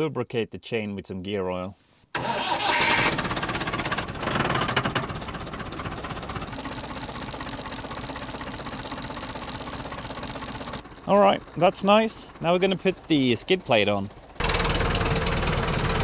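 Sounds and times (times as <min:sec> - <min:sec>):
tractor engine running: 0:02.2 - 0:16.0.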